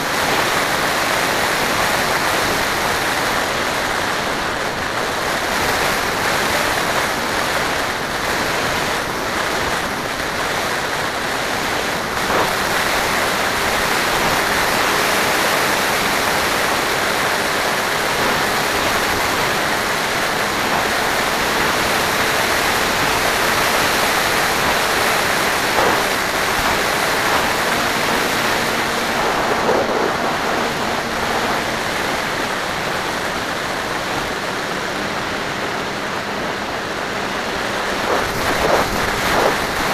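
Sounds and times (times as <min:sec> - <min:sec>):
airflow rushing over camera: 0:00.1 - 0:33.5, 0:37.6 - 0:39.9.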